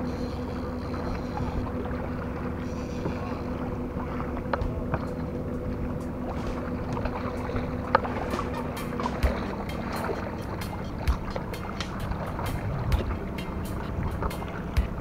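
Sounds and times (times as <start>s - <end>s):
low hum: 0.0s - 15.0s
water noise: 0.0s - 15.0s
wind: 0.0s - 15.0s.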